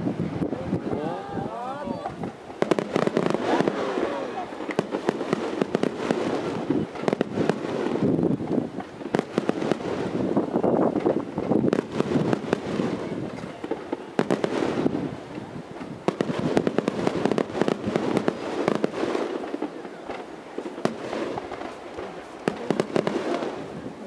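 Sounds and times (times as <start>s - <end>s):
fireworks cracking and popping: 0.0s - 24.0s.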